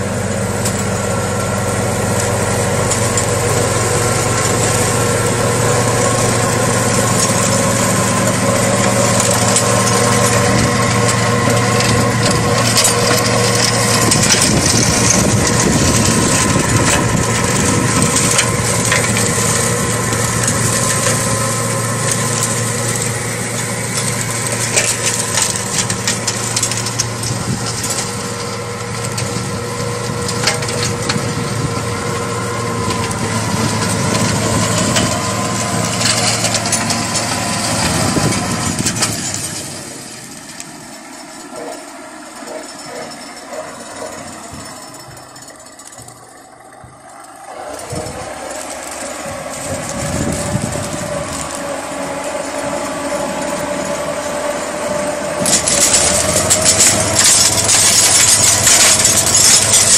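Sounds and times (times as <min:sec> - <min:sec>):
mower whirring and chopping grass: 0:00.0 - 0:59.9
tractor diesel engine running: 0:00.0 - 0:59.9
debris ticking against blades: 0:00.6 - 0:59.9.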